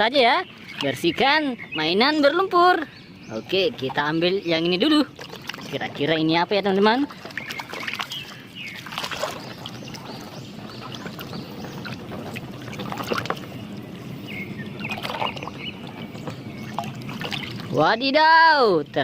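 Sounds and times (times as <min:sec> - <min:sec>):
water sloshing and trickling: 0:00.0 - 0:19.0.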